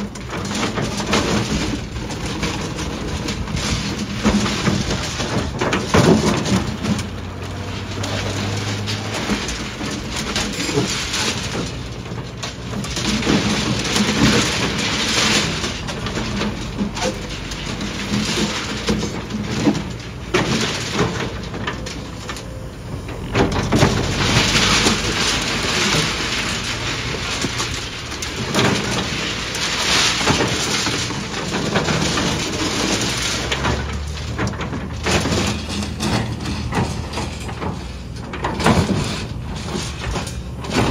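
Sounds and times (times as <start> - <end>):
excavator diesel engine under load: 0.0 - 40.9
steel bucket crunching concrete: 0.0 - 40.9.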